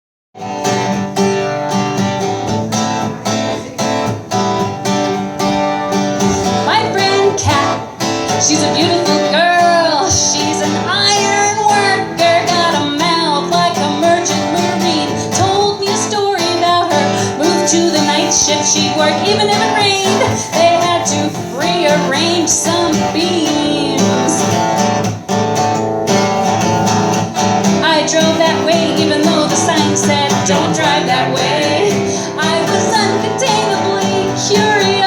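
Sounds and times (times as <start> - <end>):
acoustic guitar strumming: 0.4 - 35.0.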